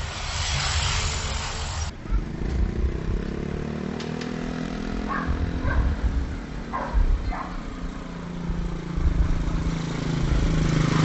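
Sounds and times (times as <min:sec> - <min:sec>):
street traffic noise: 0:00.0 - 0:11.0
vehicle engine accelerating: 0:00.0 - 0:11.0.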